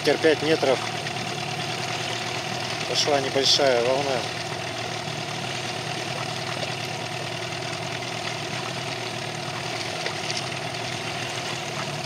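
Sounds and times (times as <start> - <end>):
outboard motor running: 0.0 - 12.0
water noise: 0.0 - 12.0
wind: 0.0 - 12.0.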